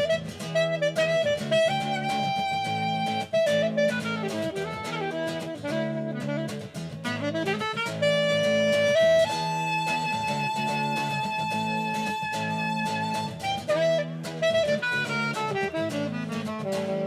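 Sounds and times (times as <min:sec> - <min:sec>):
instrumental lead melody: 0:00.0 - 0:17.0.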